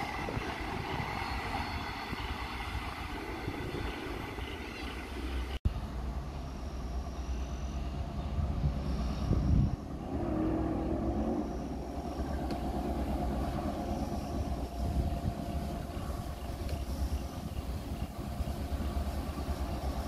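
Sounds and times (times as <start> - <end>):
distant vehicle engine rumble: 0.0 - 20.0.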